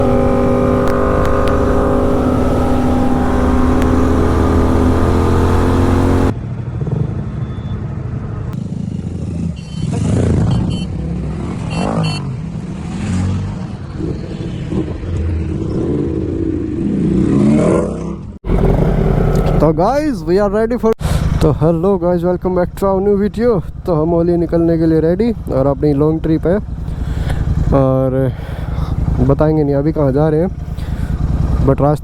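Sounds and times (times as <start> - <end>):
motorcycle engine revving: 0.0 - 6.4, 8.7 - 21.5, 23.7 - 31.8.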